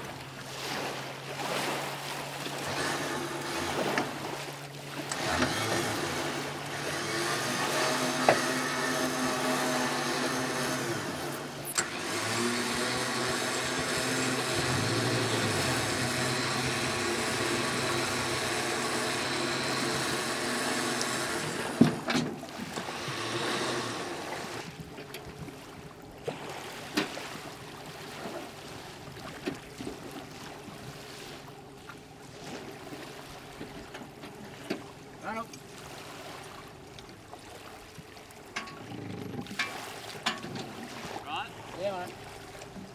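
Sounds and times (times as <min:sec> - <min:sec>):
outboard motor running: 0:00.0 - 0:42.9.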